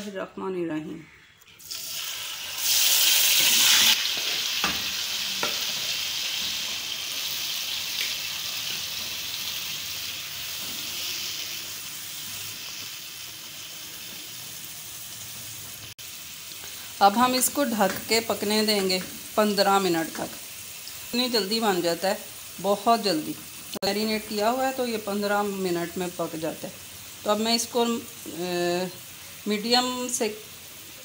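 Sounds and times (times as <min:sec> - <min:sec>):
chicken sizzling in hot oil: 0:01.6 - 0:31.0.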